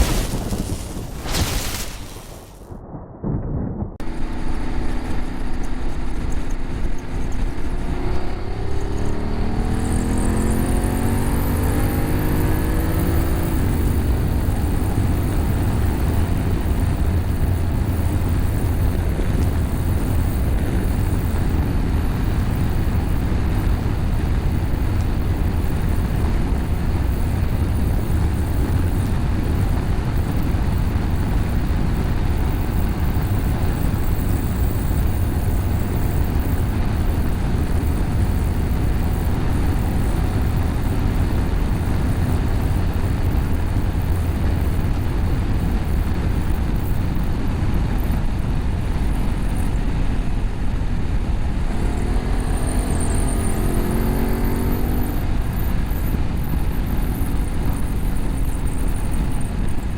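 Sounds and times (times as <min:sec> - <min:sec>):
motorcycle engine accelerating: 0:04.0 - 0:59.9.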